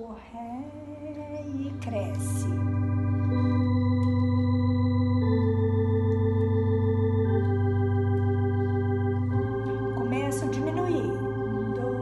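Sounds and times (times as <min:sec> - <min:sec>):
electronic organ playing a hymn: 0:00.8 - 0:12.0.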